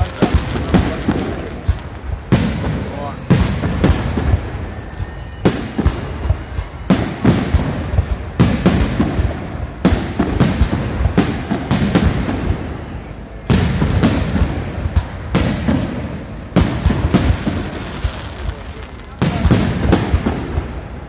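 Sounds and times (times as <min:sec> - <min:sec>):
fireworks bangs and booms: 0:00.0 - 0:21.0.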